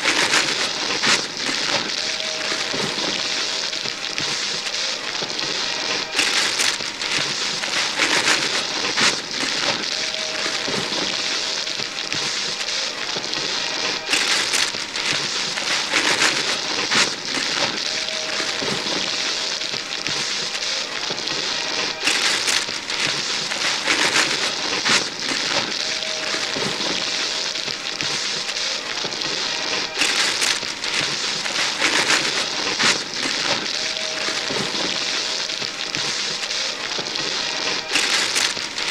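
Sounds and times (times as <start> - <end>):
paper ripping: 0.0 - 38.9
wrapping paper crackling and rustling: 0.0 - 38.9.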